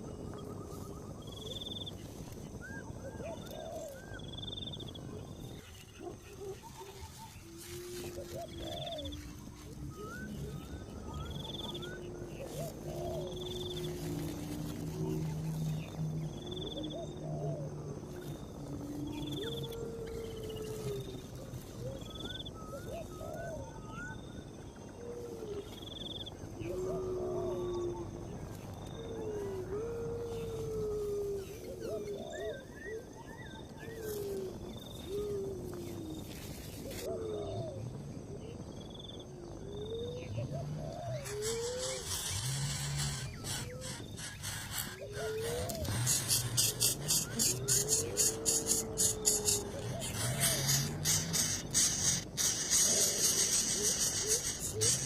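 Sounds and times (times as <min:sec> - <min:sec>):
birds trilling and chirping: 0:00.0 - 0:55.0
steady background hiss: 0:00.0 - 0:55.0.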